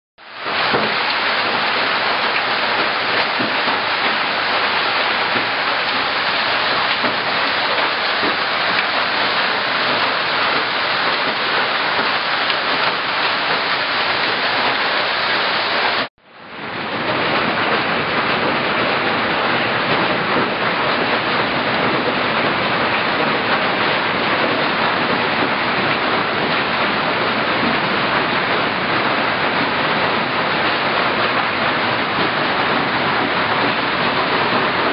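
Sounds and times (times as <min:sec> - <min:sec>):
hailstones pelting down: 0:00.3 - 0:16.1, 0:16.7 - 0:34.9.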